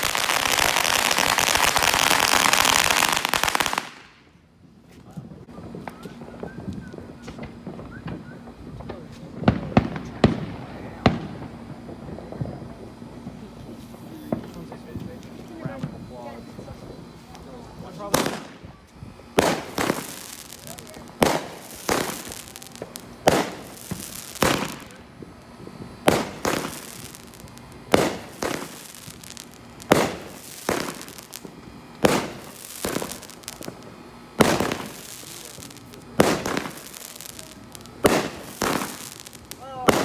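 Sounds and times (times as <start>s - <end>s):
fireworks bangs: 0.0s - 4.2s, 4.9s - 40.0s.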